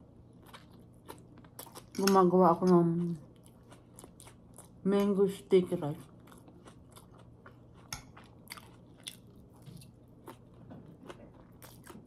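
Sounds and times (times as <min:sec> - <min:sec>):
chewing noodles: 0:00.3 - 0:04.8, 0:06.0 - 0:12.0.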